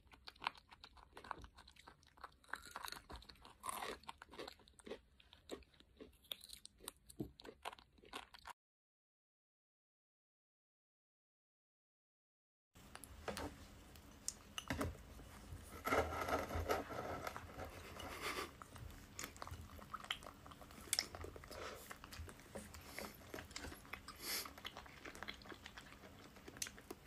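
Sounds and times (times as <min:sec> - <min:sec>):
biting and wet chewing: 0:00.0 - 0:08.6, 0:13.9 - 0:27.0.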